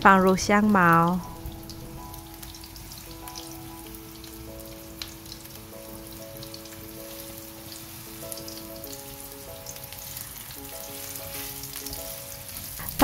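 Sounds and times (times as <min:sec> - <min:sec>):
food sizzling in oil: 0:00.0 - 0:13.0
soft background music: 0:00.0 - 0:13.0.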